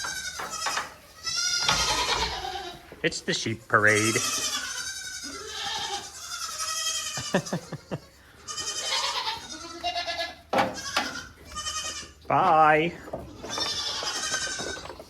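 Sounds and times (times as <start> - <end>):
lambs and sheep bleating: 0.0 - 2.9, 3.8 - 12.2, 13.3 - 15.0.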